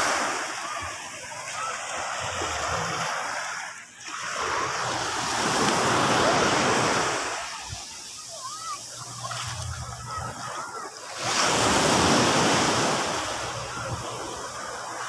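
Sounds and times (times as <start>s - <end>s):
sea surf breaking on beach: 0.0s - 15.0s.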